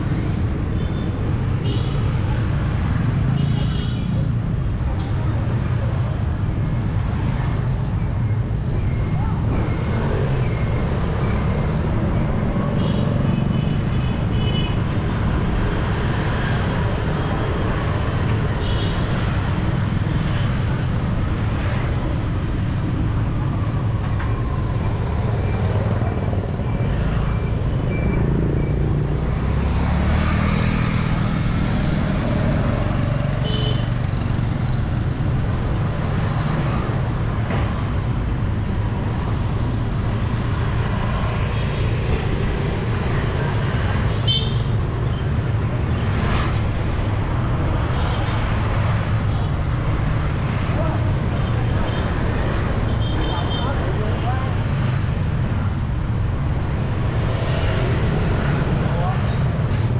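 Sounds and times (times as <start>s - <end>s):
road rumble: 0.0s - 59.9s
vehicle engines passing: 4.2s - 59.9s.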